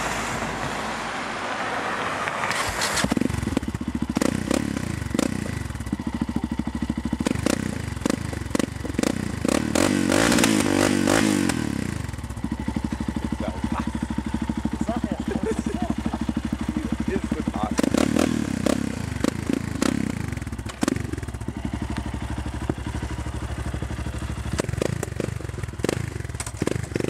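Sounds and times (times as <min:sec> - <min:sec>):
crackling exhaust: 0:00.0 - 0:27.0
motorcycle engine revving: 0:02.4 - 0:27.0.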